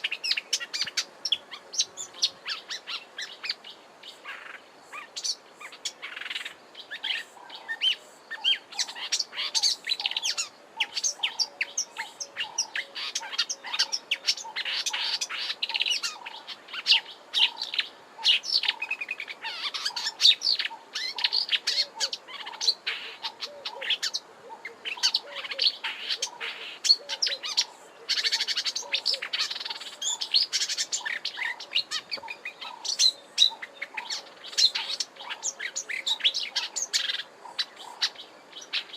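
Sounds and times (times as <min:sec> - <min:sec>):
bird singing fast warble: 0:00.0 - 0:38.9.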